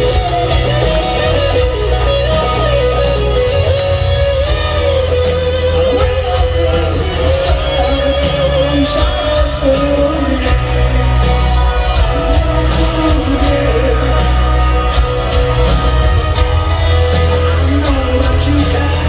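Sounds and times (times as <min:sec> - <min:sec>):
distant live rock band: 0:00.0 - 0:19.0
male lead singer: 0:00.0 - 0:19.0.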